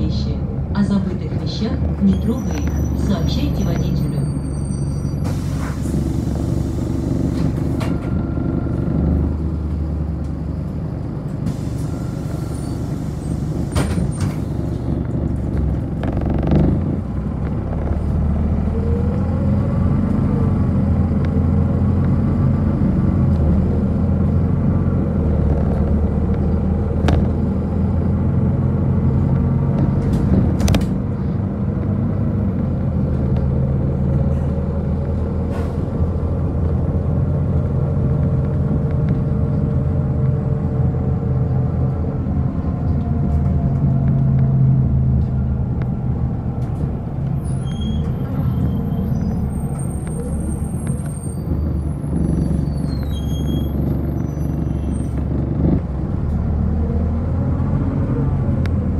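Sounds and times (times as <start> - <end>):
bus engine hum: 0.0 - 58.9
road noise: 0.0 - 58.9.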